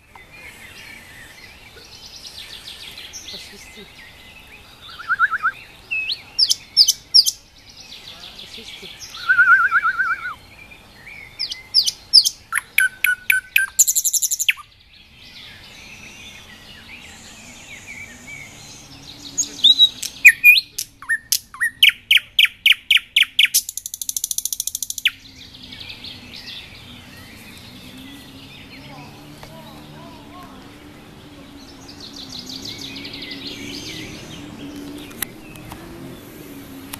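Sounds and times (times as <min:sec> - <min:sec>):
nightingale singing: 0:00.0 - 0:36.9.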